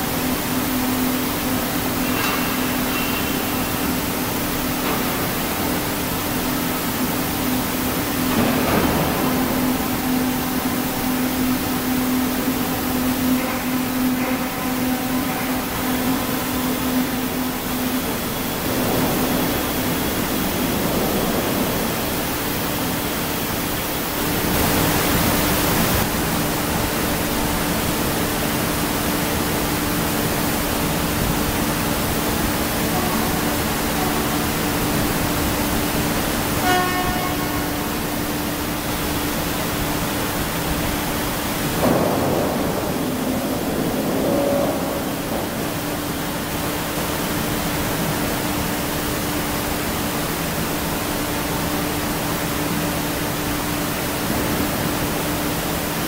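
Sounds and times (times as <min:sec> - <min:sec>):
hiss of machinery: 0:00.0 - 0:56.0
low industrial hum: 0:00.0 - 0:56.0.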